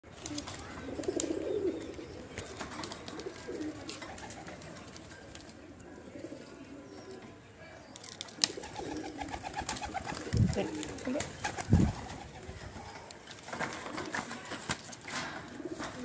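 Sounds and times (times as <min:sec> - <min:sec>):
pigeons cooing: 0:00.2 - 0:07.3, 0:08.4 - 0:16.0.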